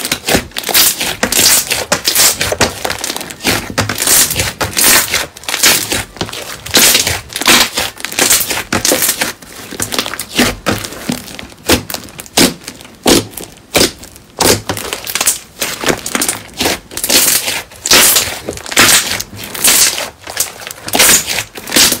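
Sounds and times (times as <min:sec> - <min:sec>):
slime crackling squishes: 0:00.0 - 0:22.0.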